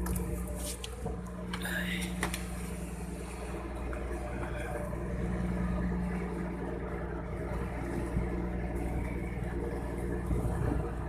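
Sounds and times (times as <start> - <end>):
ship engine droning: 0.0 - 11.0.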